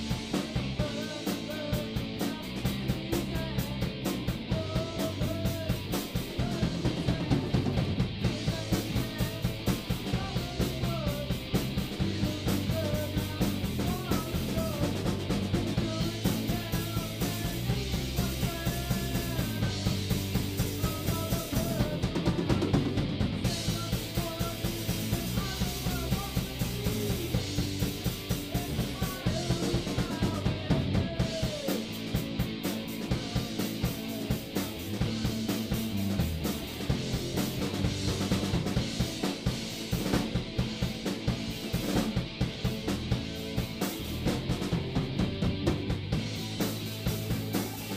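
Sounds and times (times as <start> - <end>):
bass guitar: 0.0 - 47.9
drum kit: 0.0 - 47.9
electric guitars: 0.0 - 47.9.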